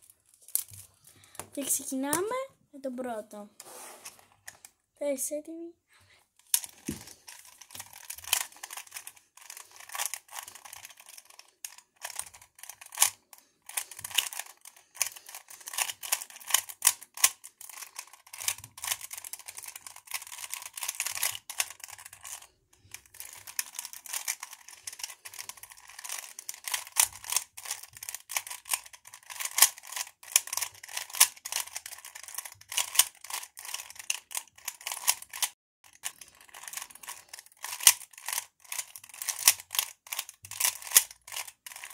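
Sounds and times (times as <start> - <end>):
puzzle cube layers clicking: 6.5 - 41.9.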